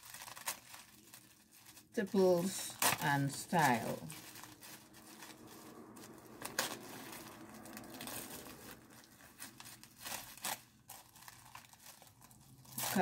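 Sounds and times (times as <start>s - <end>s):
tissue paper rustling and crinkling: 0.0s - 13.0s.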